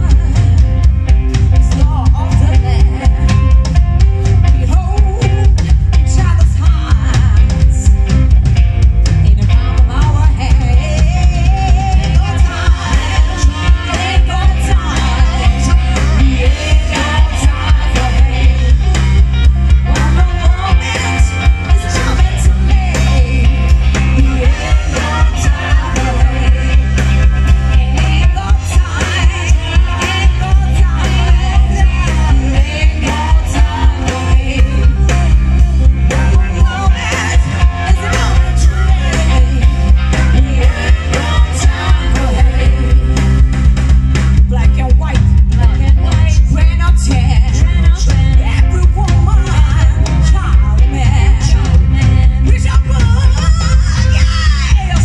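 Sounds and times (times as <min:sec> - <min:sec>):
drums: 0:00.0 - 0:55.0
electric bass: 0:00.0 - 0:55.0
electric guitar: 0:00.0 - 0:55.0
woman singing lead: 0:00.0 - 0:55.0.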